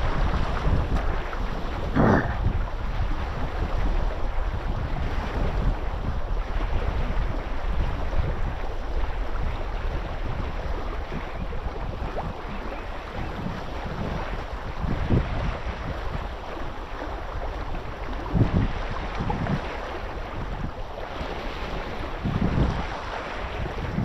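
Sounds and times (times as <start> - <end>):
waves and moving water: 0.0 - 24.0
wind buffeting microphone: 0.0 - 24.0.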